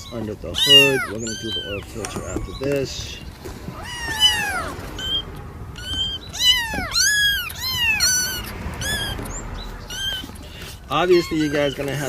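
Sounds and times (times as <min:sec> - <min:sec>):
cat meowing: 0:00.0 - 0:12.0.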